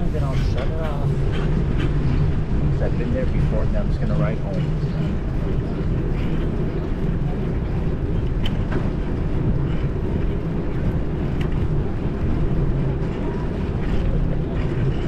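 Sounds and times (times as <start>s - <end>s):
bicycle road noise: 0.0s - 15.0s
wind on microphone: 0.0s - 15.0s.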